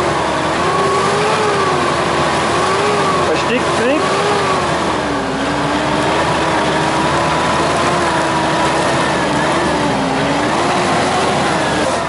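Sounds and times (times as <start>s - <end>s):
car engine running at raised revs: 0.0s - 12.0s.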